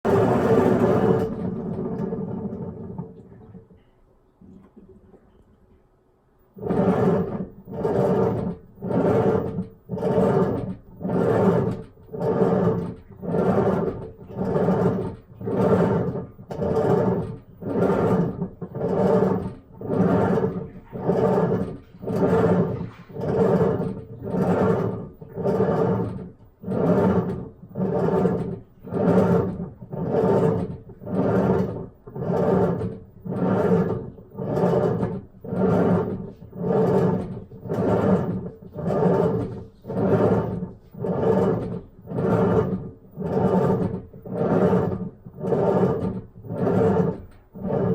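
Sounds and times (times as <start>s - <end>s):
washing machine rhythmic abnormal noise: 0.0s - 5.4s, 6.3s - 47.9s.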